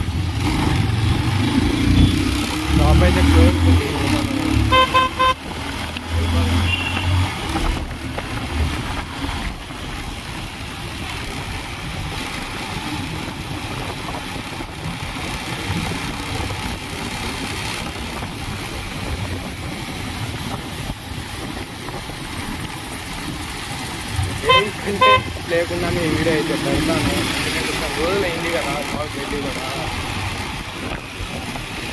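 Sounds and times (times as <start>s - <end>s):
vehicle road noise: 0.0s - 31.9s.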